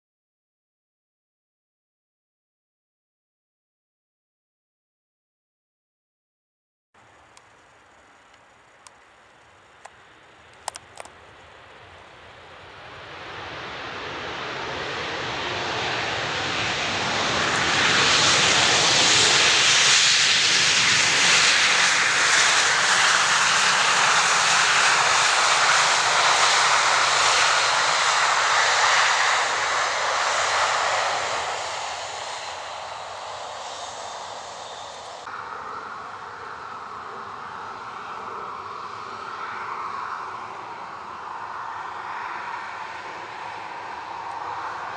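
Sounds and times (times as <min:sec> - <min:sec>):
jet engines roaring: 0:07.0 - 0:44.9.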